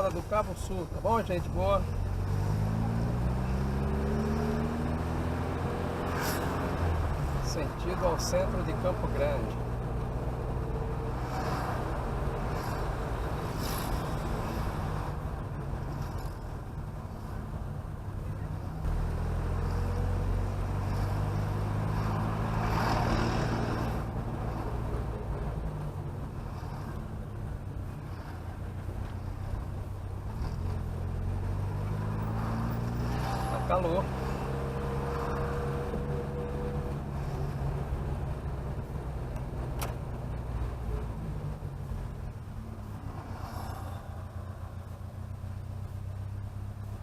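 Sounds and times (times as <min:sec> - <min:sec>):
car engine and road noise drone: 0:00.0 - 0:47.0.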